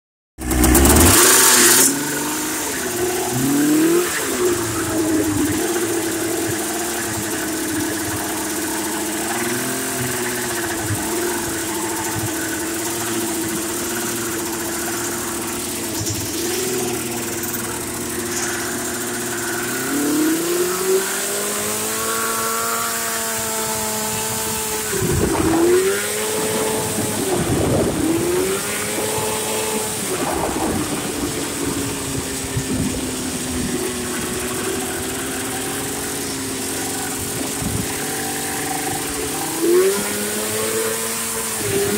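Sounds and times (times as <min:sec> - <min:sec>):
two-stroke engine revving: 0:00.4 - 0:41.9.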